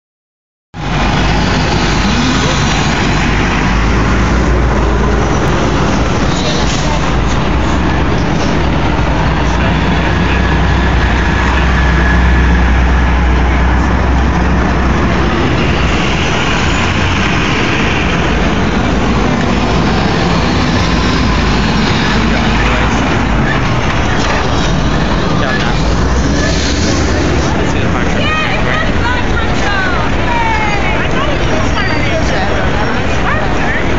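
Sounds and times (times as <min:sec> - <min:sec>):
city traffic noise: 0:00.8 - 0:33.9
fire truck engines rumbling: 0:00.8 - 0:33.9.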